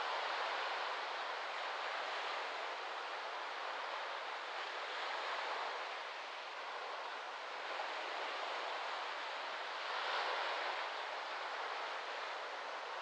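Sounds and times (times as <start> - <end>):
small waves lapping on sand: 0.0 - 13.0.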